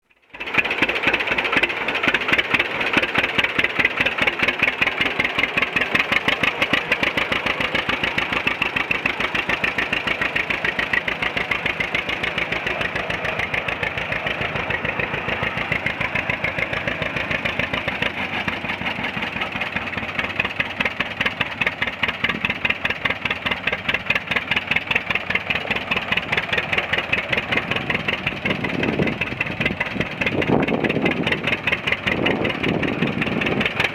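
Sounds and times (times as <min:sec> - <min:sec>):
tractor engine idling: 0:00.0 - 0:33.9.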